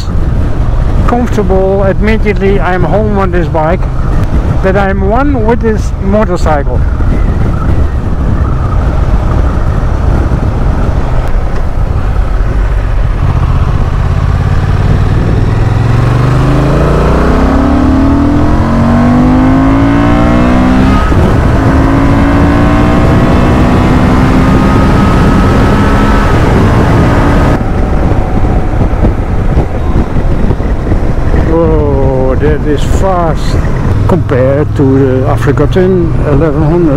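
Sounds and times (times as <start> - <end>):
motorcycle engine accelerating: 0.0 - 36.9
wind rush on microphone: 0.0 - 36.9.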